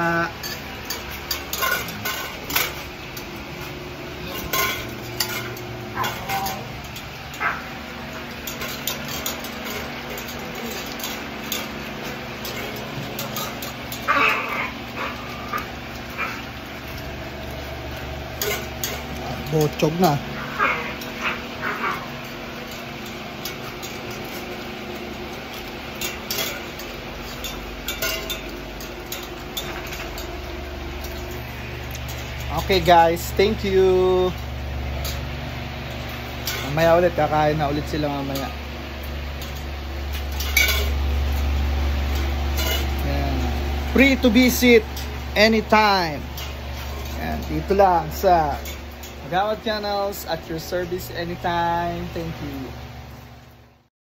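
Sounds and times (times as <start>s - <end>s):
metal cages clinking and rattling: 0.0s - 52.9s
metal feeding bowls clinking: 0.0s - 52.9s
steady low hum: 0.0s - 53.9s.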